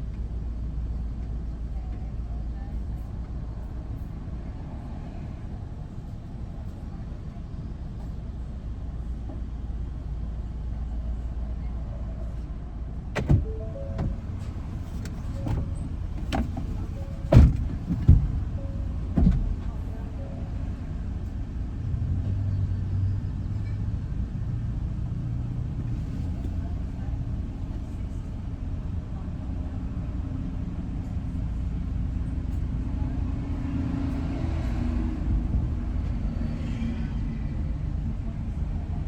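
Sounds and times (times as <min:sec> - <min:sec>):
vehicle rumbling on road: 0:00.0 - 0:39.0.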